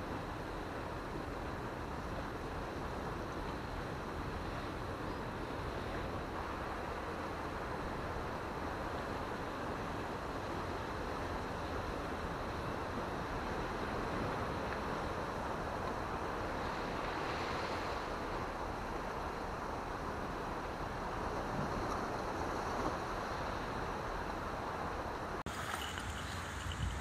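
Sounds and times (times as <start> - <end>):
wind noise on microphone: 0.0 - 27.0
sea surf breaking on rocks: 0.3 - 26.5.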